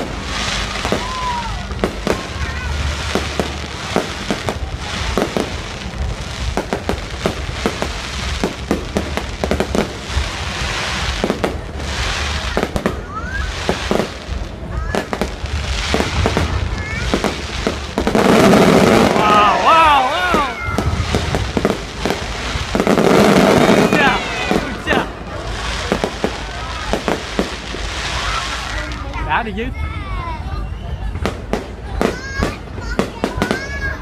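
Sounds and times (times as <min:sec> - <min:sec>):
firework shells bursting: 0:00.0 - 0:29.2
rising firework whistles: 0:00.0 - 0:29.2, 0:30.4 - 0:32.6
firework crackling: 0:00.0 - 0:34.0.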